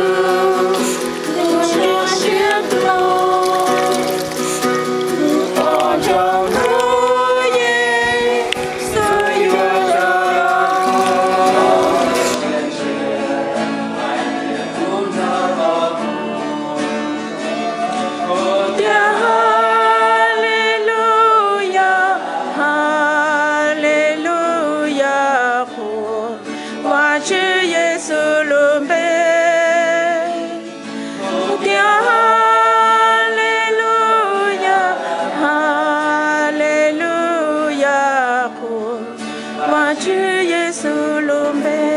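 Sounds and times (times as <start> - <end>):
group singing a worship song: 0.0 - 41.9
song with singing voice: 0.0 - 41.9.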